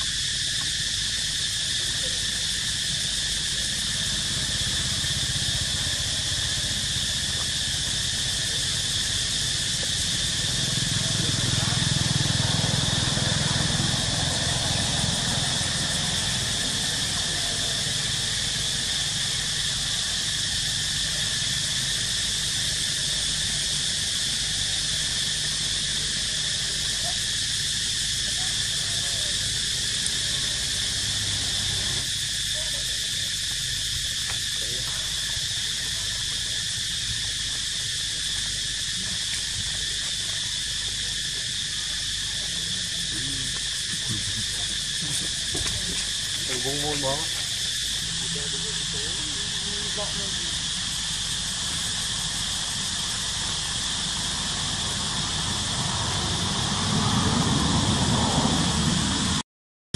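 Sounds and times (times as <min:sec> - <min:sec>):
insects buzzing: 0:00.0 - 0:59.4.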